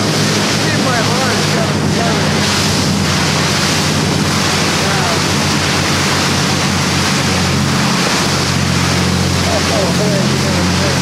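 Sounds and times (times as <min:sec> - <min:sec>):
boat engines droning: 0:00.0 - 0:11.0
rush of boat wake: 0:00.0 - 0:11.0.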